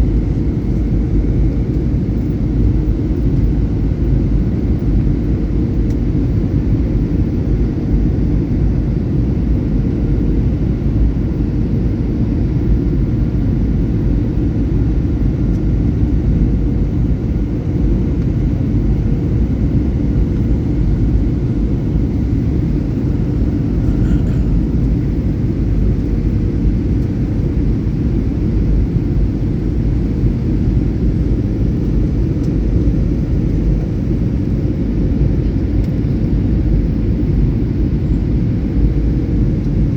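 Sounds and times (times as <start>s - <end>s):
airliner engine and airflow rumble: 0.0s - 39.9s
faint steady hum: 0.0s - 39.9s.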